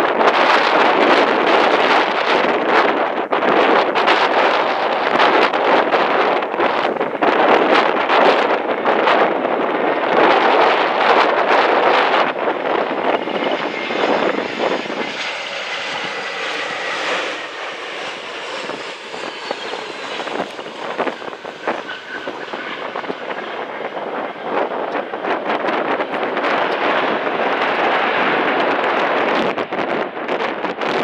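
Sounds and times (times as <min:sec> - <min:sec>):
jet engine whine: 0:00.0 - 0:31.0
wind buffeting microphone: 0:00.0 - 0:31.0.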